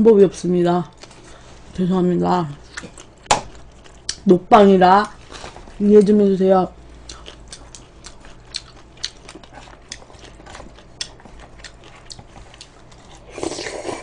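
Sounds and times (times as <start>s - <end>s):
chewing crunchy fried chicken: 2.5s - 14.0s.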